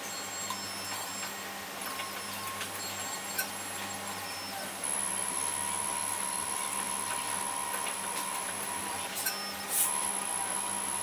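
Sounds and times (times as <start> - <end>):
key cutting machine motors whining: 0.0 - 11.0.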